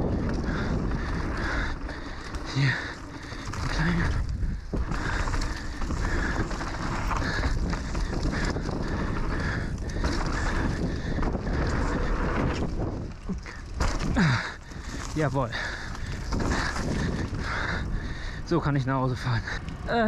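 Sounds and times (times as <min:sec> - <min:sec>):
tyres rolling over dirt trail: 0:00.0 - 0:20.0
wind buffeting microphone: 0:00.0 - 0:20.0
bike knocking over bumps: 0:00.1 - 0:17.6.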